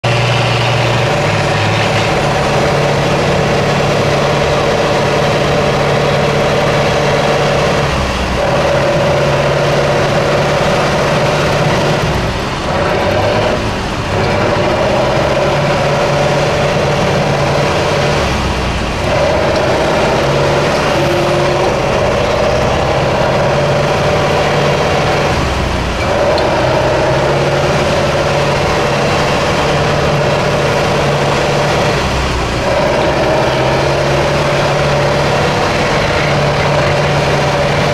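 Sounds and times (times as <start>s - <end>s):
truck engine revving under load: 0.0s - 37.9s.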